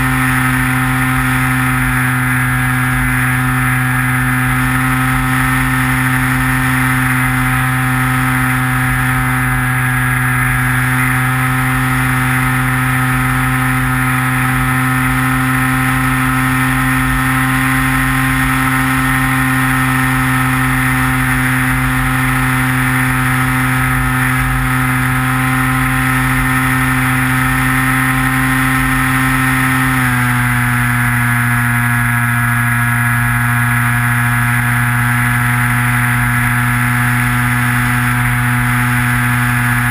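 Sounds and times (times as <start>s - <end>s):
rc plane motor droning: 0.0s - 39.9s.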